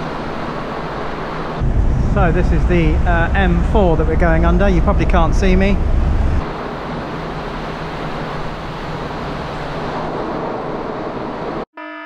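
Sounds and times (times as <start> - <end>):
motorway traffic noise: 0.0 - 11.7.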